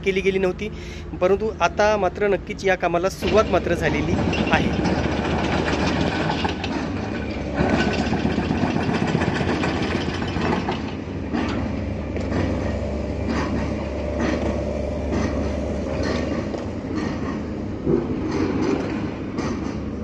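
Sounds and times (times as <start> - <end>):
diesel engine rumble: 0.0 - 20.0.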